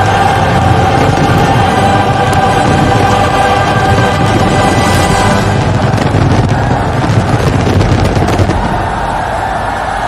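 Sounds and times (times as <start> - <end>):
dense low rumble: 0.0 - 9.3
choral and orchestral music: 0.0 - 10.0.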